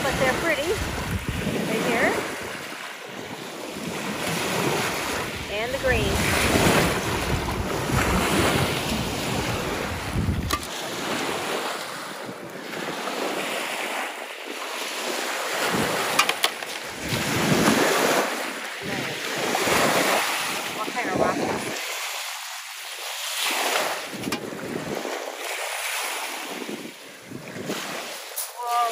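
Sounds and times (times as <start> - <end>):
wind buffeting microphone: 0.0 - 22.1, 23.5 - 28.9
lake waves washing on shore: 0.0 - 28.9.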